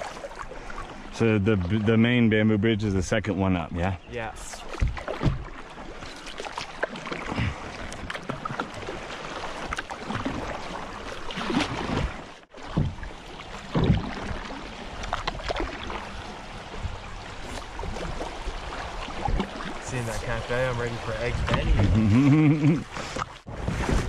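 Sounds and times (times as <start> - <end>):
kayak paddle splashing: 0.0 - 2.2, 4.4 - 24.0
water running along hull: 0.0 - 24.0.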